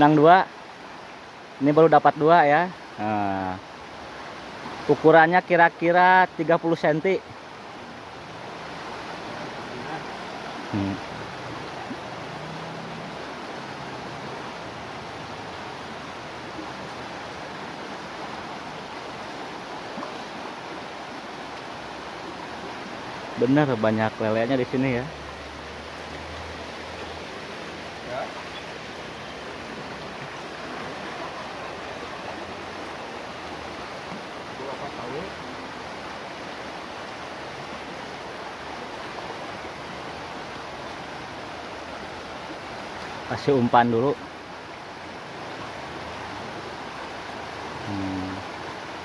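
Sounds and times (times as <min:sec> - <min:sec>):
river rushing over rocks: 0:00.0 - 0:49.0.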